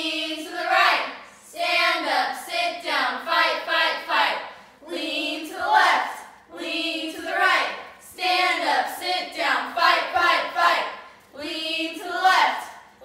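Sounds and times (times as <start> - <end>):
girls chanting a cheer: 0.0 - 12.9.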